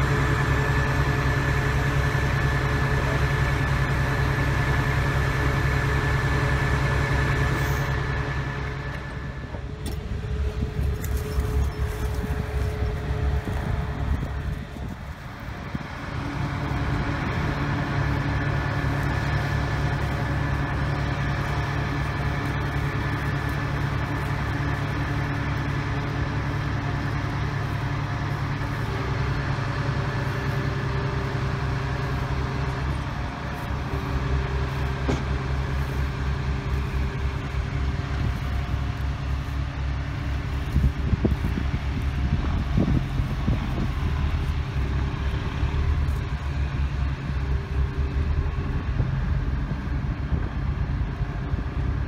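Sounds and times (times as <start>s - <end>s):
crusher diesel engine running: 0.0s - 52.0s.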